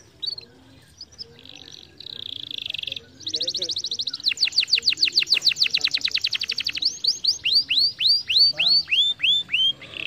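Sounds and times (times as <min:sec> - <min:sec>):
canary singing: 0:00.0 - 0:10.0.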